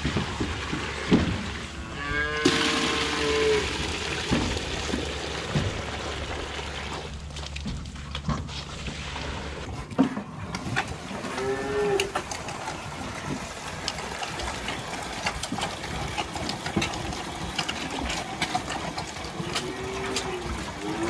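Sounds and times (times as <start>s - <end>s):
pump running: 0.0s - 21.0s.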